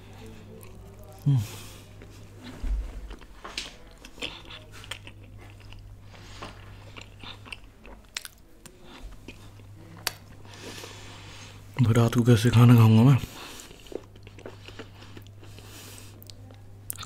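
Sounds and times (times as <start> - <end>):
chewing food: 0.1 - 10.9, 13.4 - 17.0.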